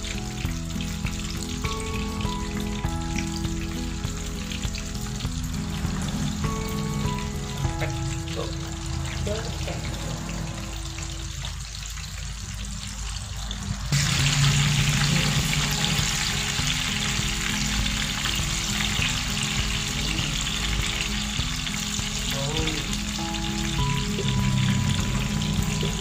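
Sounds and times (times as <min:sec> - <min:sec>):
background music with held notes: 0:00.0 - 0:12.0, 0:13.7 - 0:26.0
banana slices frying in oil: 0:00.0 - 0:26.0.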